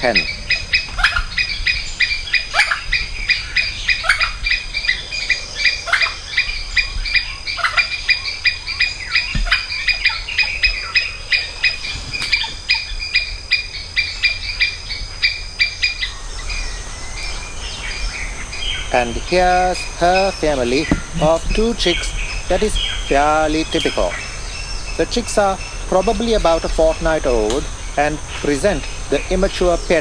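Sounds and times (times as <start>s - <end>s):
high insect chirps: 0.0s - 30.0s.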